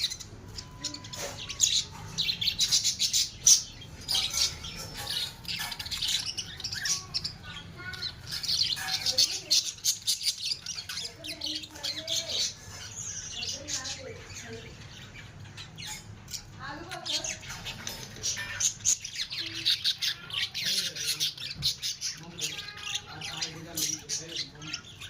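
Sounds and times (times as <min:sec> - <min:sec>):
small parrots chirping: 0:00.0 - 0:25.0.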